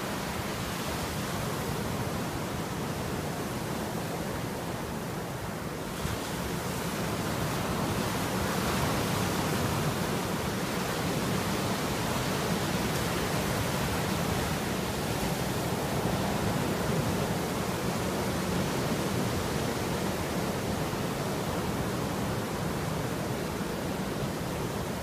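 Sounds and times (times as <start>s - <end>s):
surf washing up a beach: 0.0s - 25.0s.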